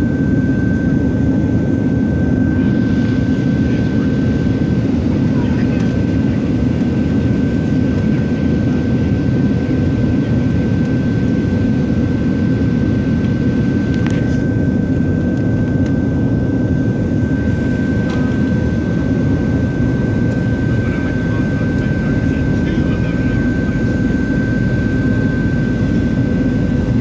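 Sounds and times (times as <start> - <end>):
airplane cabin rumble with whine: 0.0 - 27.0.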